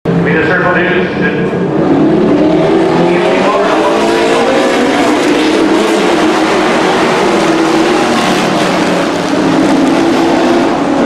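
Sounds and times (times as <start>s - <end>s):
race truck engines droning: 0.1s - 11.0s.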